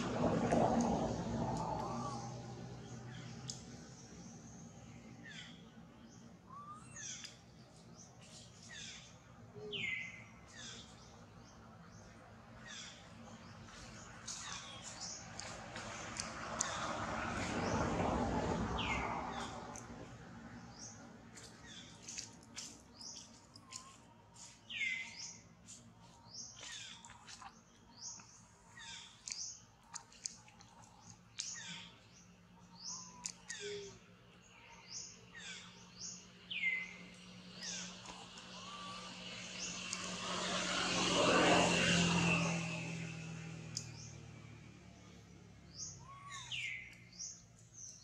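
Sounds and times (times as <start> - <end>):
wild birds chirping: 0.0 - 48.0.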